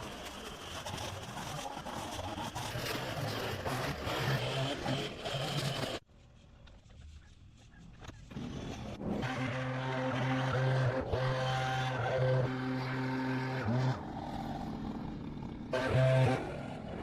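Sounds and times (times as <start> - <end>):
small gasoline engine running: 0.0 - 6.0, 8.3 - 17.0.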